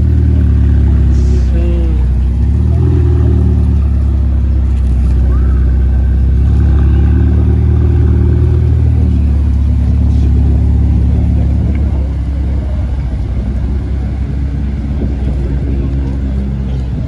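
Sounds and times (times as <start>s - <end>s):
car engine at low revs: 0.0s - 17.0s.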